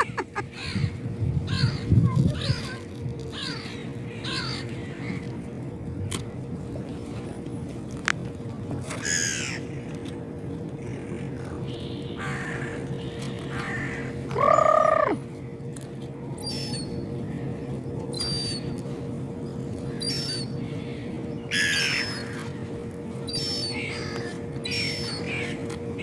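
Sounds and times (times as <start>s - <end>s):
gulls calling: 0.0s - 5.8s, 8.8s - 26.0s
steady low hum: 0.0s - 26.0s.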